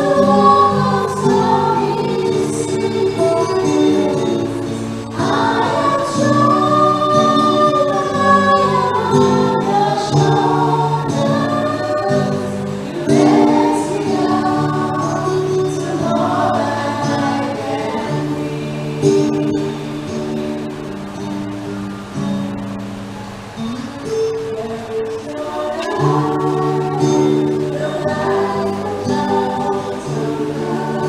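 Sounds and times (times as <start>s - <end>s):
choir singing: 0.0s - 23.4s, 24.0s - 31.0s.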